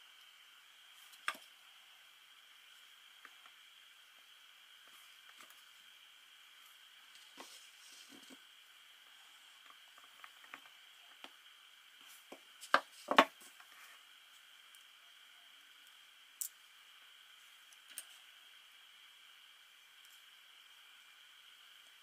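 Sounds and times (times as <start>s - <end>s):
faint hiss: 0.0s - 22.0s.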